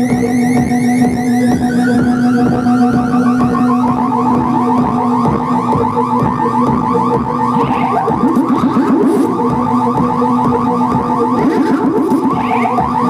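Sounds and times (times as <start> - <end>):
droning oscillator tones: 0.0 - 13.0
pulsing alarm-like warble: 0.0 - 13.0
regular electronic beat: 0.0 - 13.0.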